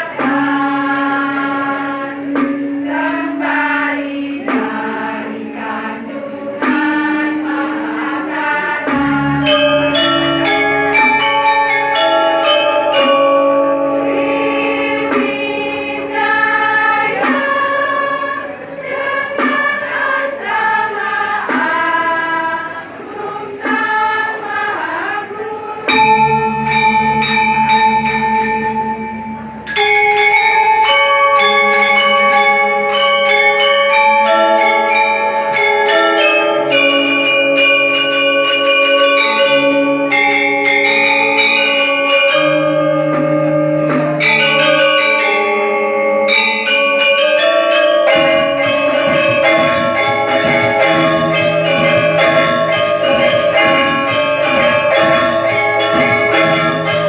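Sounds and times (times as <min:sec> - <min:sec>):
bell-like tuned instruments melody: 0:00.0 - 0:57.0.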